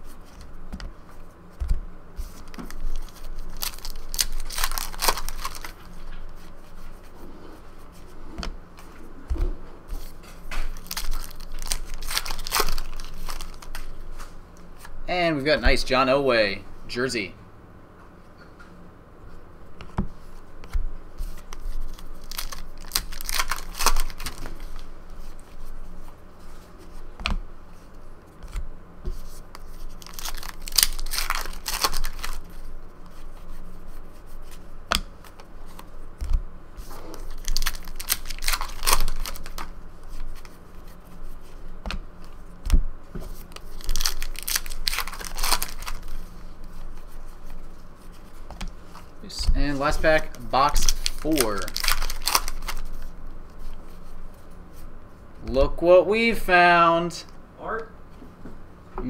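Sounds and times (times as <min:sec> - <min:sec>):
trading cards rustling: 0:00.0 - 0:16.0, 0:20.2 - 0:27.0, 0:27.8 - 0:54.9.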